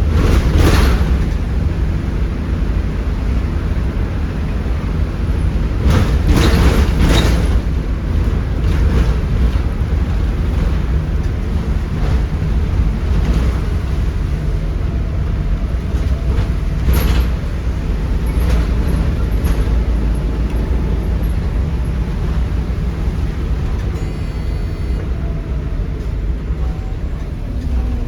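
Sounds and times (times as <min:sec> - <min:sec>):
diesel bus engine rumbling: 0:00.0 - 0:28.0.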